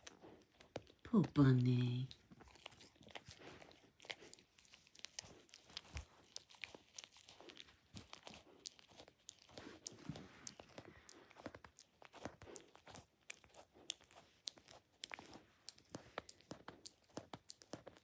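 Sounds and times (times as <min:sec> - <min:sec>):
dog chewing plush toy: 0:00.0 - 0:18.0.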